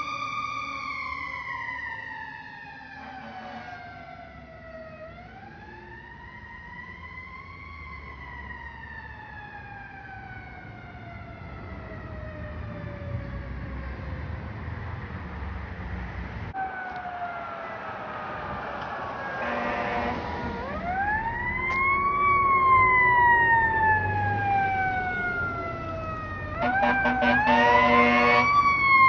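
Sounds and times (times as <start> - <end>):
fire truck siren wailing: 0.0 - 14.7, 16.5 - 29.0
road and engine rumble: 0.0 - 29.0.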